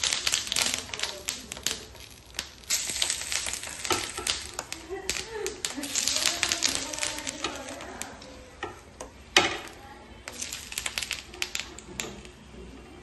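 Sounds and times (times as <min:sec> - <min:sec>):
loud crack: 0:00.0 - 0:12.5
oil crackling and popping: 0:00.0 - 0:12.6.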